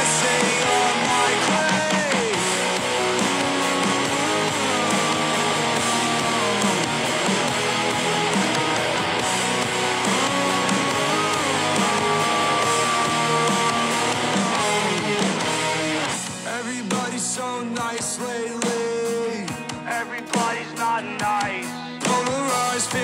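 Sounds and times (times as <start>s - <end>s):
guitar rock song: 0.0s - 23.0s.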